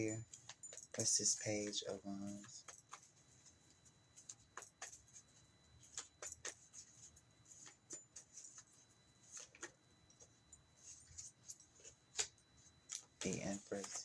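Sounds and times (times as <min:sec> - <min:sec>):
cards rustling and tapping: 0:00.3 - 0:14.0.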